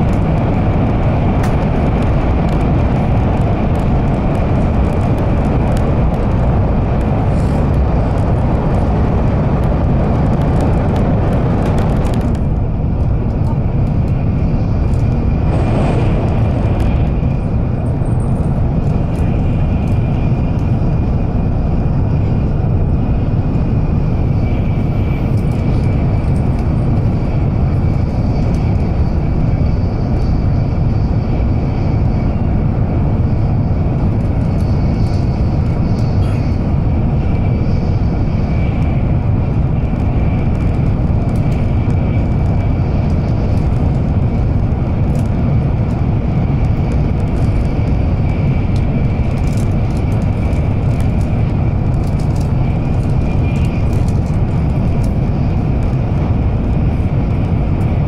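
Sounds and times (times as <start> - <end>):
train cabin low rumble: 0.0 - 58.0.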